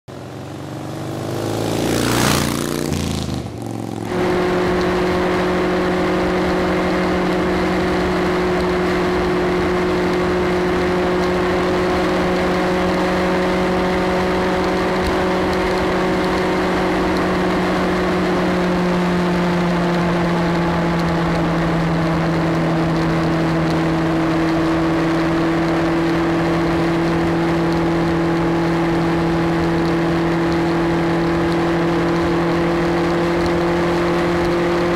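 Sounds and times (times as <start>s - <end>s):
motorcycle engine cruising: 0.1s - 34.9s
wind and road noise: 0.1s - 34.9s.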